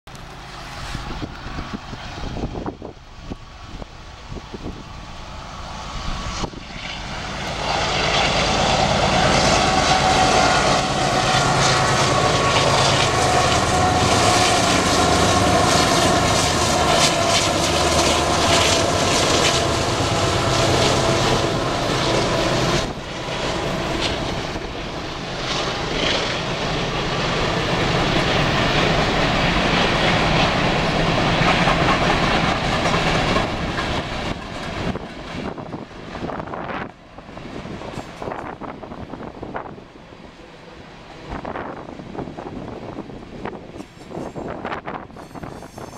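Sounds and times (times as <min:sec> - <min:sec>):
diesel locomotive engines rumbling: 0:00.1 - 0:45.9
train cars rolling on rails: 0:00.1 - 0:45.9.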